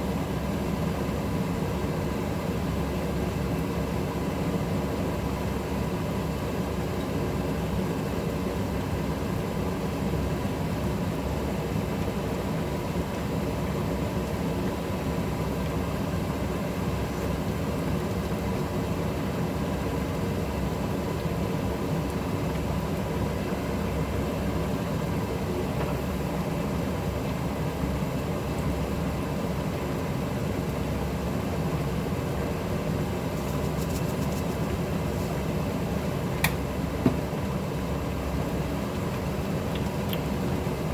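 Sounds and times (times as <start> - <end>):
range hood fan running: 0.0 - 40.9.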